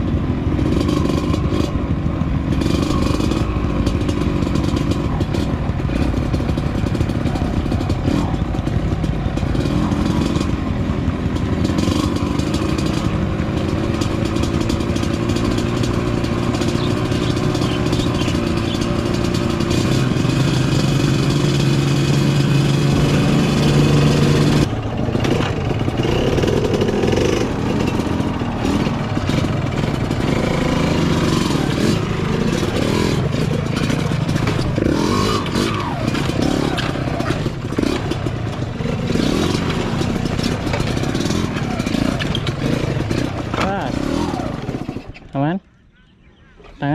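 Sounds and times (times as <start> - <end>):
motorcycle engine revving: 0.0 - 45.6.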